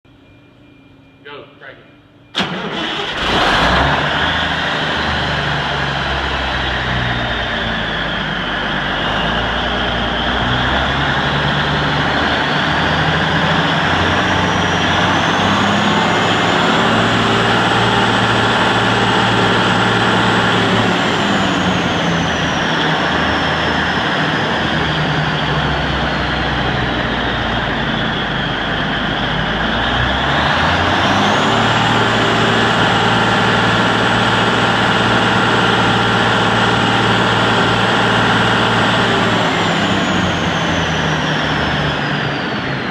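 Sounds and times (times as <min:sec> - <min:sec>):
high engine whine: 0:00.1 - 0:42.9
tractor diesel engine running: 0:02.3 - 0:42.9.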